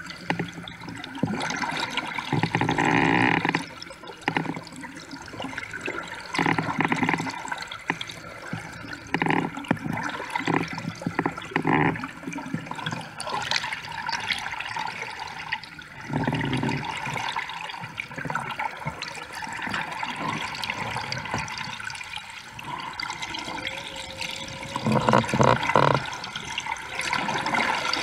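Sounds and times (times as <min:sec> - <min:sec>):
water rushing and gurgling: 0:00.0 - 0:28.0.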